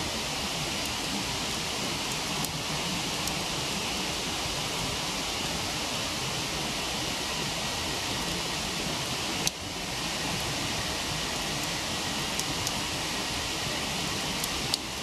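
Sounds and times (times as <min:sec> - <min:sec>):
campfire crackles: 0:00.0 - 0:15.0
waterfall rushing: 0:00.0 - 0:15.0.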